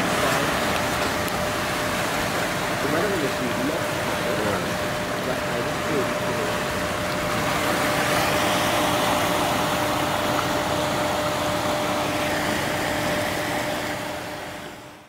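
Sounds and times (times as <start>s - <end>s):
faint steady hum: 0.0s - 15.0s
turbulent water rushing: 0.0s - 15.0s.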